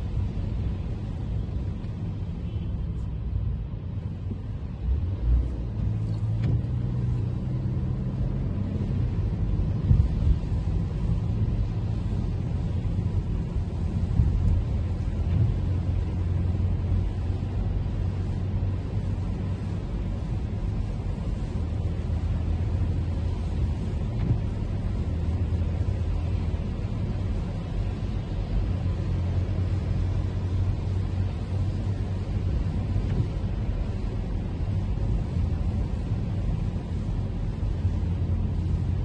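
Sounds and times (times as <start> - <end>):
car engine and road rumble: 0.0 - 39.0
tyres hissing on wet road: 0.0 - 39.0.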